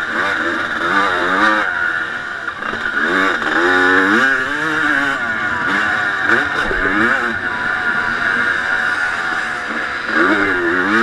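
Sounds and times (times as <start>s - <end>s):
motorcycle engine revving hard: 0.0s - 11.0s.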